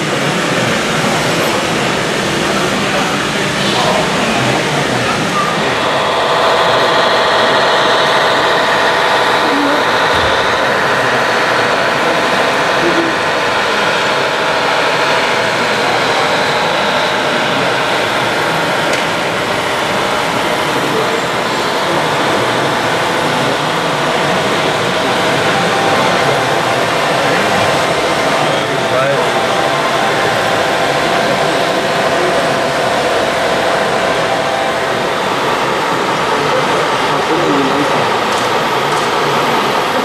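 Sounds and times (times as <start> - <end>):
crowd chatter in a hall: 0.0 - 40.0
model trucks mechanical drone: 0.0 - 40.0
faint steady tones: 0.9 - 40.0.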